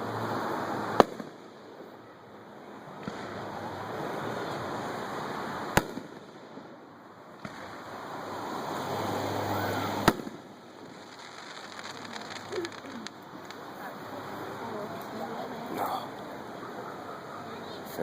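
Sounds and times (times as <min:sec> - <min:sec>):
firework rushing: 0:00.3 - 0:01.9, 0:02.8 - 0:16.4.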